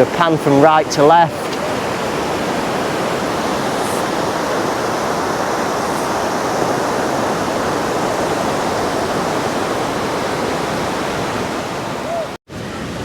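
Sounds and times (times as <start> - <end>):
waves breaking on a beach: 0.0 - 13.0.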